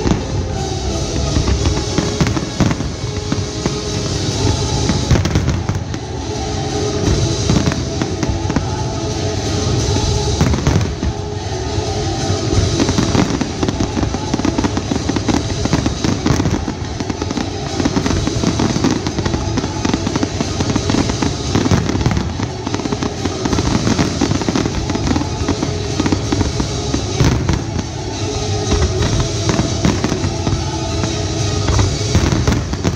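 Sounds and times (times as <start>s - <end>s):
fireworks bursting and crackling: 0.0s - 32.9s
music: 0.0s - 32.9s.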